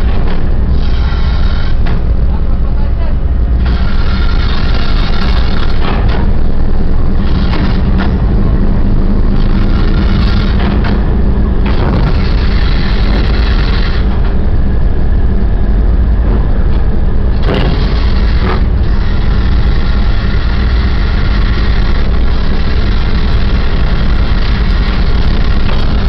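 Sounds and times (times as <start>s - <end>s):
ship engine low rumble: 0.0s - 26.0s.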